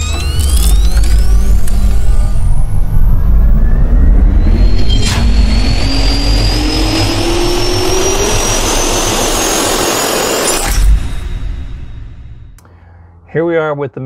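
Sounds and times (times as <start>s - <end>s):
jet turbine spooling up: 0.0s - 12.6s
sharp hit: 0.0s - 12.6s.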